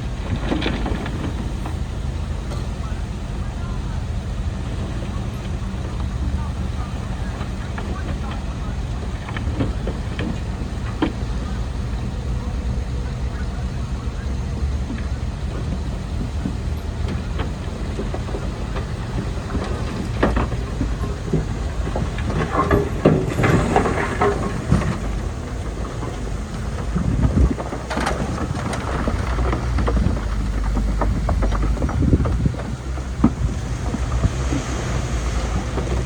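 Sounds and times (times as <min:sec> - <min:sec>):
bulldozer diesel engine running: 0:00.0 - 0:36.0
soil crunching and tracks clicking: 0:00.0 - 0:36.0.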